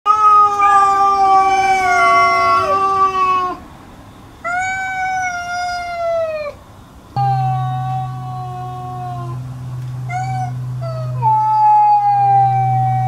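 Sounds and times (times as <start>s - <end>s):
cats yowling: 0.1s - 3.7s, 4.4s - 6.6s, 7.2s - 9.4s, 10.1s - 13.0s.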